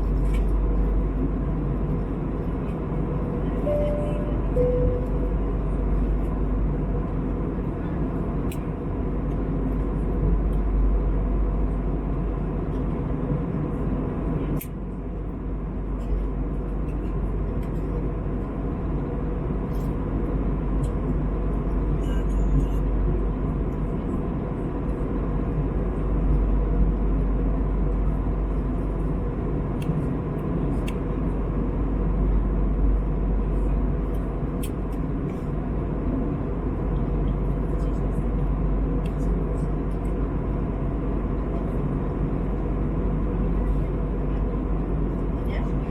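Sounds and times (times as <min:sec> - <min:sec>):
airplane cabin roar: 0:00.0 - 0:45.9
faint steady hums: 0:00.0 - 0:45.9.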